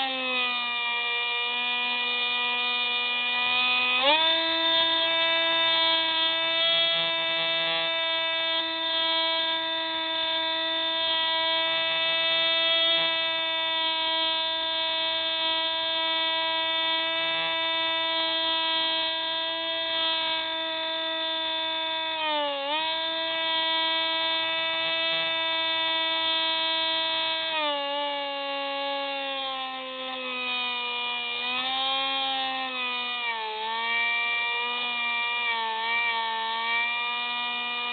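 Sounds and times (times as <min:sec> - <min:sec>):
electric motor and propeller whining: 0:00.0 - 0:37.9.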